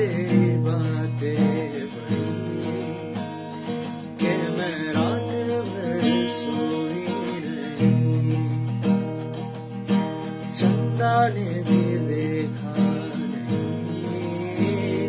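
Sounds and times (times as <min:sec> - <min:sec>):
man singing: 0:00.0 - 0:09.2, 0:10.4 - 0:15.0
acoustic guitar strumming: 0:00.0 - 0:15.0.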